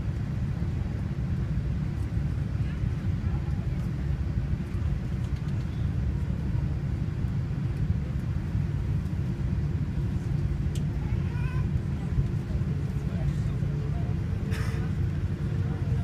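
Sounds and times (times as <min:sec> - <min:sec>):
low rumble of jet engines: 0:00.0 - 0:16.0.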